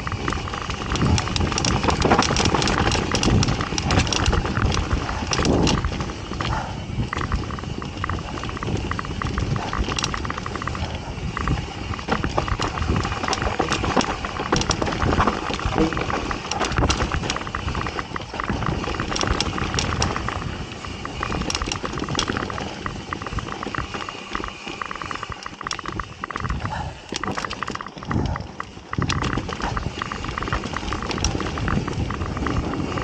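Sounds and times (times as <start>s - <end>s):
bike rattling and knocking: 0.0s - 33.0s
bike tyres rolling on dirt: 0.0s - 33.0s.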